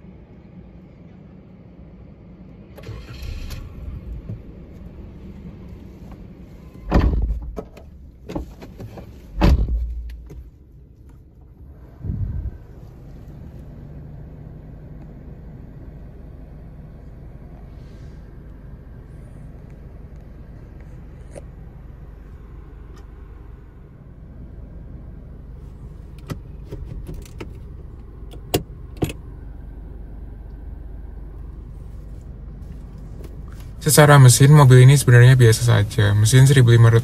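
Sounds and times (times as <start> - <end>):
car engine rumbling in cabin: 0.0 - 37.0.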